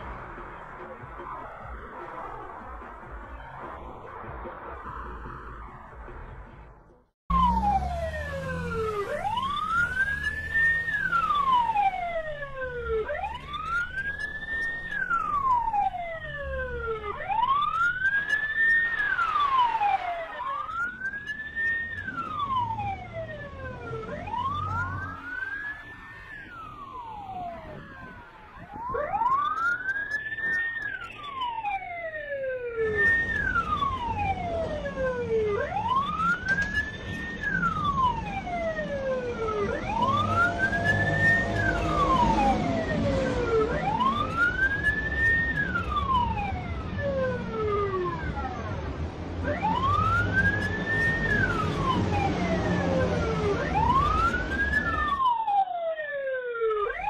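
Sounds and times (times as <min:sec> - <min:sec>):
police siren wailing: 0:00.0 - 0:06.6, 0:07.3 - 0:57.0
low traffic rumble: 0:00.0 - 0:57.0
second siren: 0:07.3 - 0:57.0.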